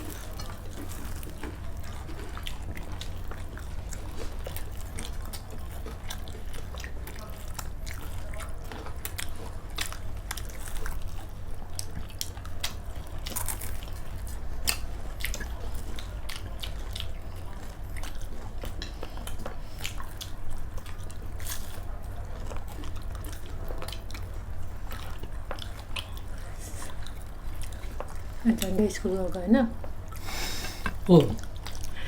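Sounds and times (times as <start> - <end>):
people chewing food: 0.0 - 32.0.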